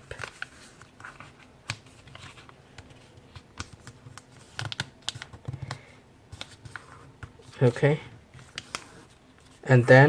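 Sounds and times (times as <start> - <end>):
paper crinkling and folding: 0.0 - 10.0.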